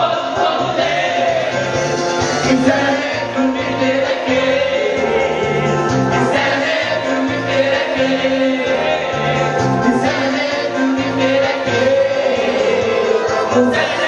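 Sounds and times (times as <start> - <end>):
music with steady bass line: 0.0 - 14.0
people singing along: 0.0 - 14.0.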